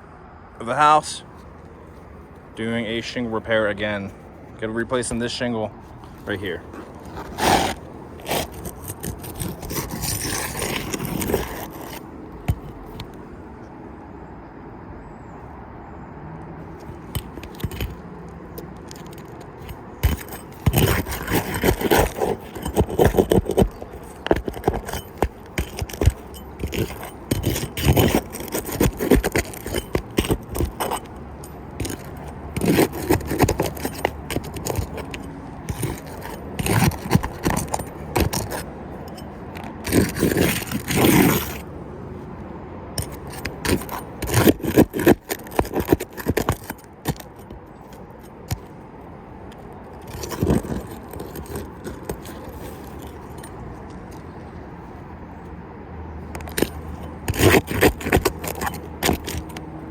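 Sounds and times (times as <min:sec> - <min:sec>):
roof shingles scraping and rattling: 0:03.0 - 0:13.2, 0:16.8 - 0:41.7, 0:43.0 - 0:48.8, 0:49.7 - 0:54.7, 0:56.3 - 0:59.9.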